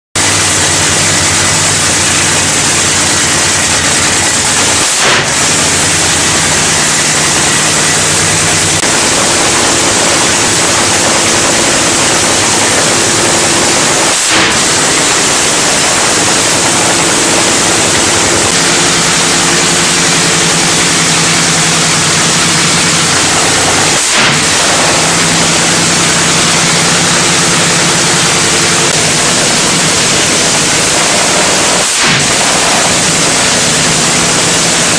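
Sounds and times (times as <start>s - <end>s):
loud supercharged engines revving: 0.2s - 34.9s.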